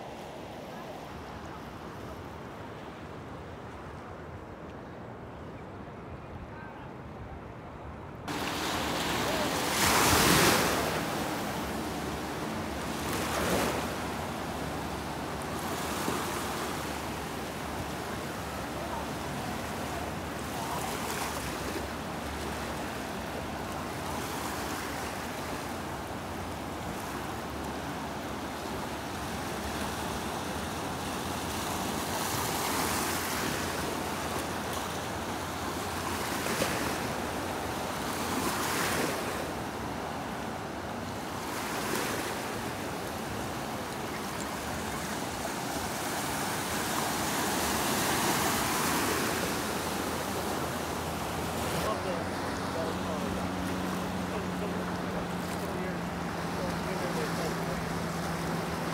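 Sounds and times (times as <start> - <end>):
ocean waves breaking: 0.0 - 5.2, 7.3 - 58.9.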